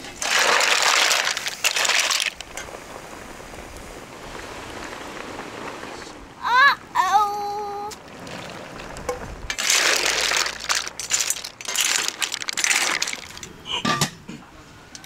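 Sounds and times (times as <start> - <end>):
liquid sizzling on hot mussels: 0.0 - 6.6, 8.0 - 13.6.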